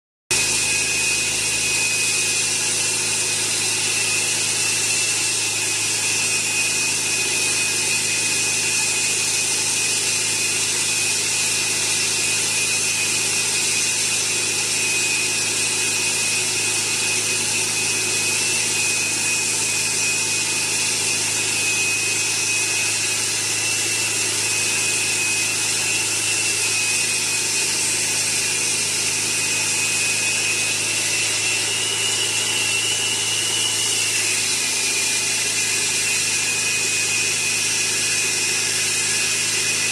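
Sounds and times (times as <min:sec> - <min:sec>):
concrete saw cutting concrete: 0:00.3 - 0:39.9.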